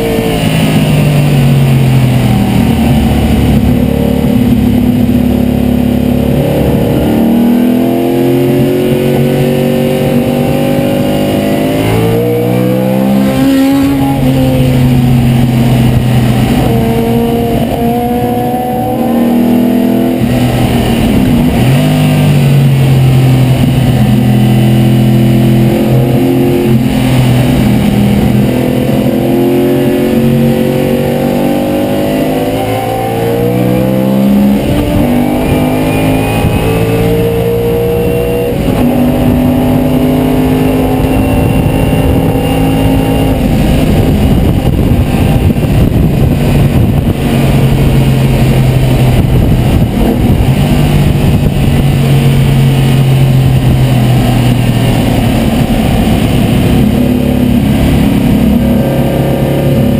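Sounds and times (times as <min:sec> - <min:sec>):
racing engine accelerating: 0:00.0 - 0:59.9.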